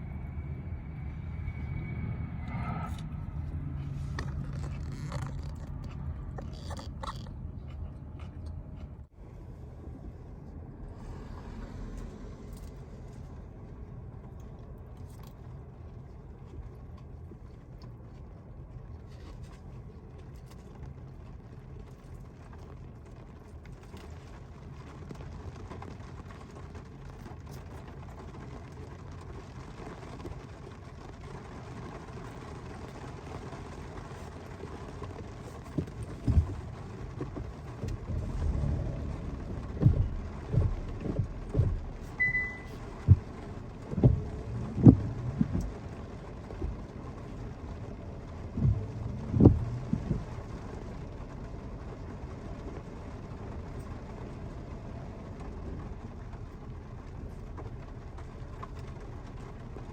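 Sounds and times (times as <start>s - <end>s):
low engine rumble: 0.0s - 59.9s.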